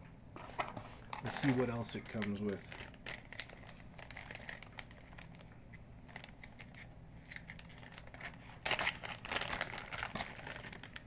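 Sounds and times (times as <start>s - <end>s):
packaging rustling and crinkling: 0.4s - 11.0s.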